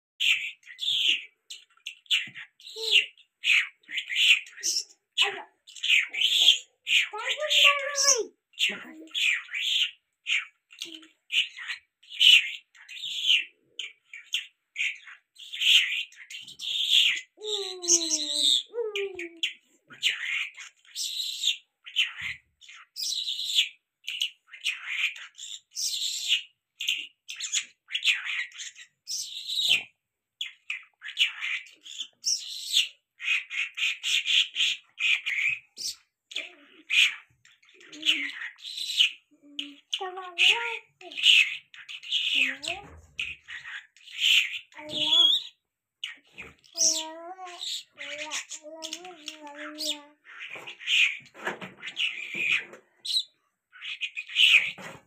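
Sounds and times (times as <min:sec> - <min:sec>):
songbird chirping and twittering: 0:00.2 - 0:55.0.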